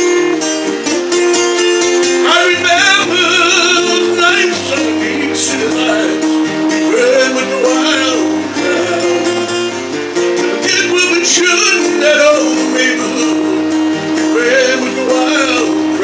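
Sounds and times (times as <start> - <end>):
acoustic guitar chords: 0.0 - 16.0
person singing: 2.1 - 16.0.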